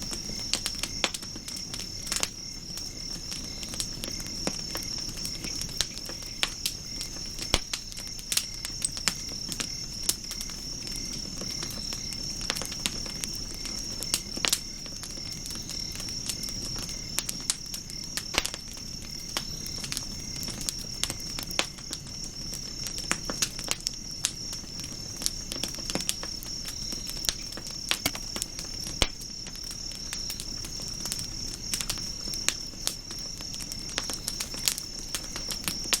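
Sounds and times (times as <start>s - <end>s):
campfire crackling and popping: 0.0s - 36.0s
insects trilling: 0.0s - 36.0s.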